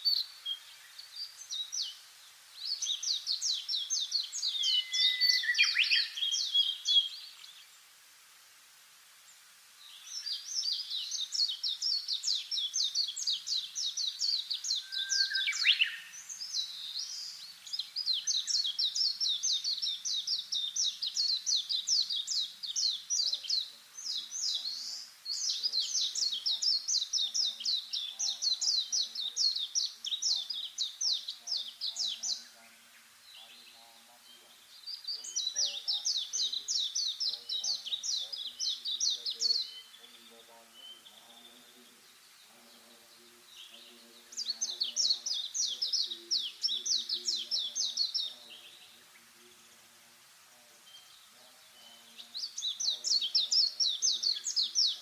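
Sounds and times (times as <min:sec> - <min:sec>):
birds chirping: 0:00.0 - 0:08.0, 0:09.8 - 0:55.0.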